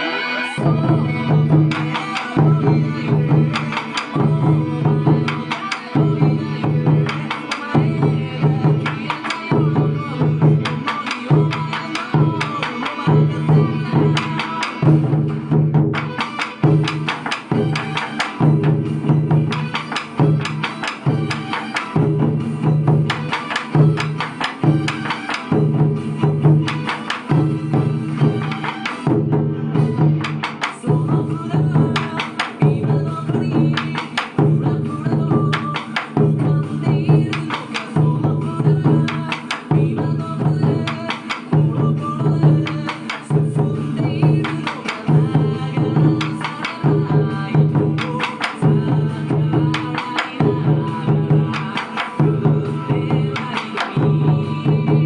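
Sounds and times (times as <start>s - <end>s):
taiko drums beating: 0.0s - 55.0s.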